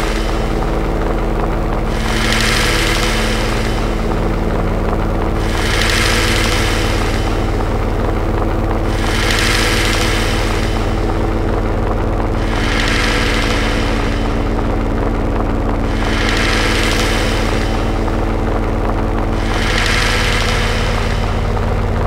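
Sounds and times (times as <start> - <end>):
low droning hum: 0.0 - 22.0.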